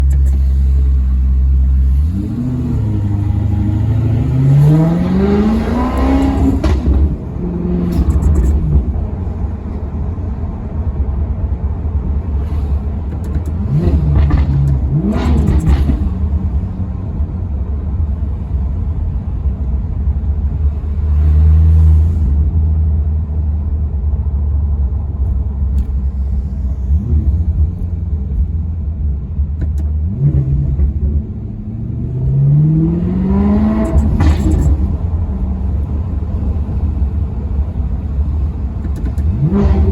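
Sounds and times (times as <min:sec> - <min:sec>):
car engine revving: 0:00.0 - 0:19.2, 0:24.9 - 0:39.9.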